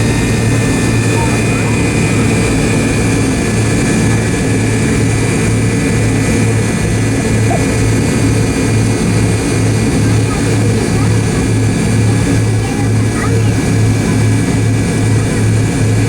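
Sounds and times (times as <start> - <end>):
jet cabin engine and air noise: 0.0 - 16.0
low throbbing hum: 0.0 - 16.0.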